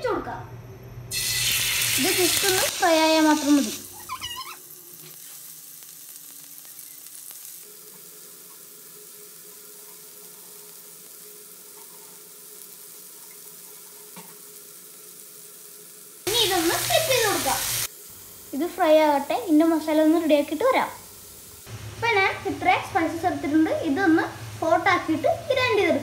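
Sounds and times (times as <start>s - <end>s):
chicken sizzling in oil: 1.1s - 26.0s.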